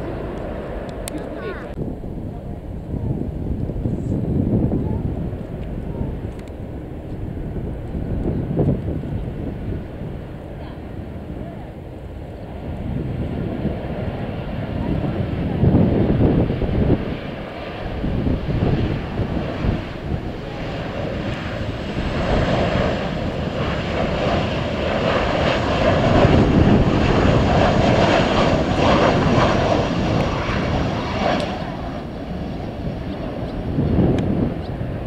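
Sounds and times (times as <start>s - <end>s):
airliner passing overhead: 0.0s - 35.0s.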